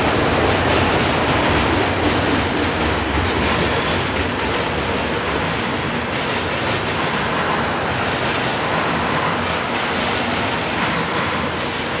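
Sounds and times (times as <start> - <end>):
rattling train cars: 0.0 - 12.0
train wheels on rails: 0.0 - 12.0.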